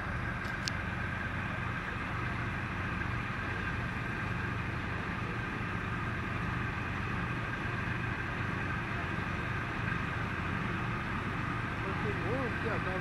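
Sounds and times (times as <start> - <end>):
high engine whine: 0.0 - 13.0
ship engines droning: 0.0 - 13.0.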